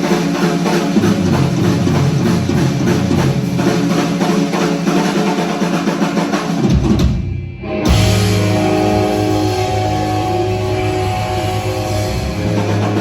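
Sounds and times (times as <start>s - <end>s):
fast dense drum strikes: 0.0s - 13.0s
rock and roll band playing: 0.0s - 13.0s.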